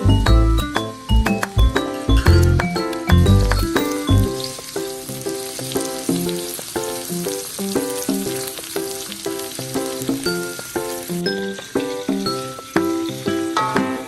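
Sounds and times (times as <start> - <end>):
background music: 0.0 - 14.0
oil sizzling in a pan: 0.0 - 14.0.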